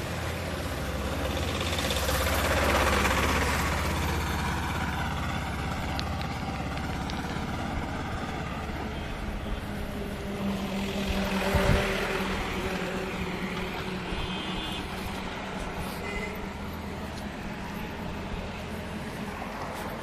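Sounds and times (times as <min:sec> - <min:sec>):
vehicle engine rumbling: 0:00.0 - 0:20.0
vehicle passing: 0:00.0 - 0:20.0.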